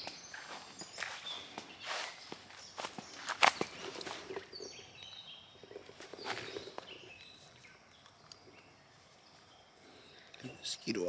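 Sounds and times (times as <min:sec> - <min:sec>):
footsteps outdoors: 0:00.0 - 0:11.0
high bird chirps: 0:00.0 - 0:11.0.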